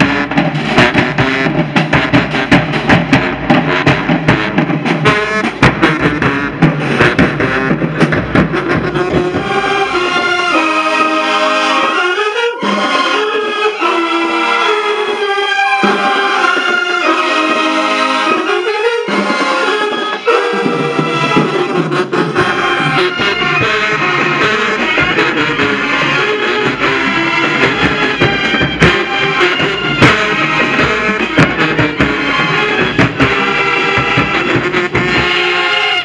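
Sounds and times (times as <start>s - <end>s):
brass section sustained chords: 0.0s - 36.0s
marching band drums: 0.0s - 36.0s.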